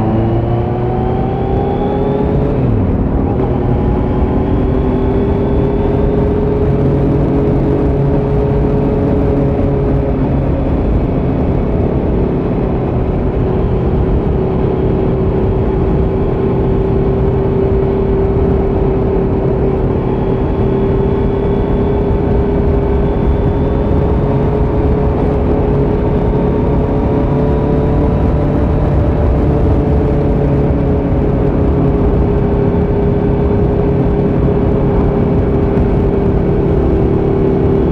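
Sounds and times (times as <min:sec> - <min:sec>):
motorcycle engine cruising: 0:00.0 - 0:37.9.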